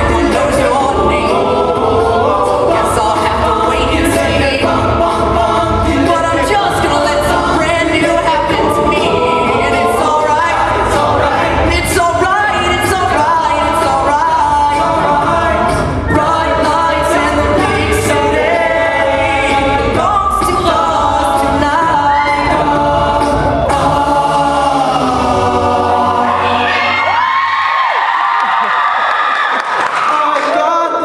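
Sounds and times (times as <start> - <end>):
a cappella group singing: 0.0 - 27.8.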